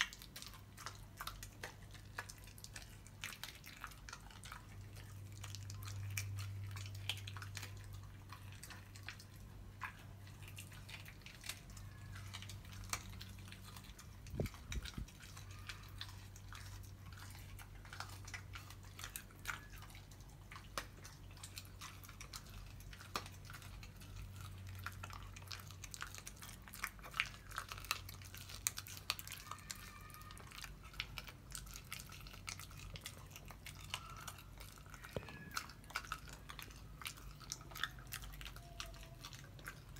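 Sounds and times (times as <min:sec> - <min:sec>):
puppy teeth crunching on bone: 0:00.0 - 0:39.9.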